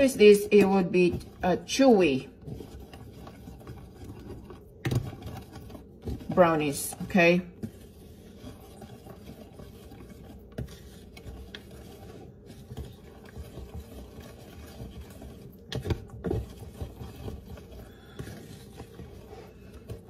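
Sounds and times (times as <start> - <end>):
whisk knocking on bowl: 0.0 - 20.0
whisk scraping ceramic bowl: 0.0 - 20.0.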